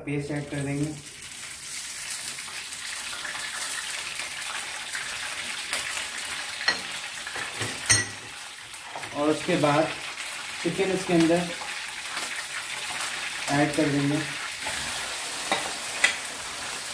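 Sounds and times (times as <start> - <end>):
paste sizzling in hot oil: 0.3 - 16.9.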